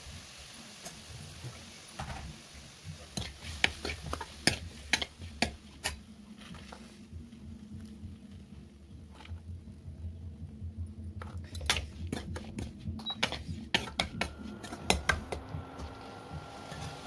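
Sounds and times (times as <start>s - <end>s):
soft sizzle: 0.0s - 17.0s.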